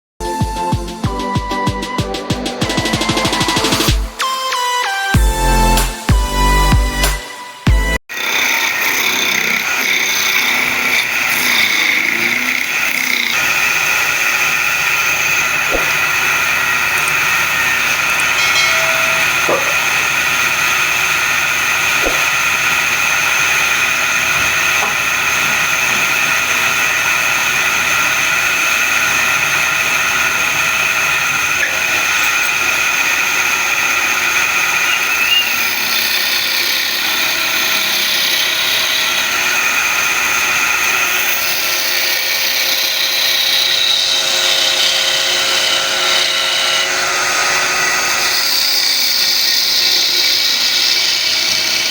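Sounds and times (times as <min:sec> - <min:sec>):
wood lathe whining: 0:08.0 - 0:51.9.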